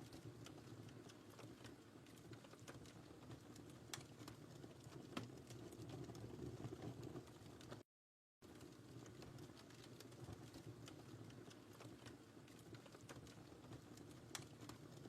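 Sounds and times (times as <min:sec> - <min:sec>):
wood fire crackling: 0:00.0 - 0:07.8, 0:08.4 - 0:15.0.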